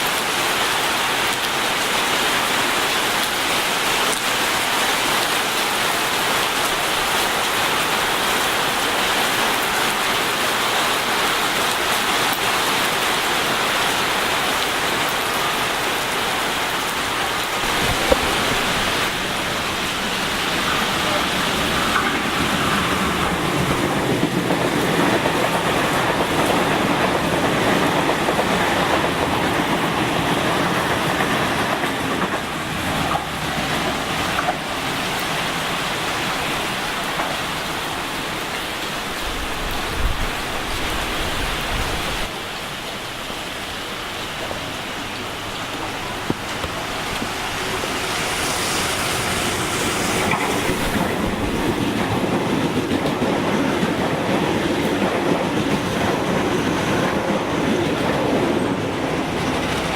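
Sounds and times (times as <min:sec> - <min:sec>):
train wheels rushing on rails: 0:00.0 - 0:42.5, 0:43.4 - 0:59.9.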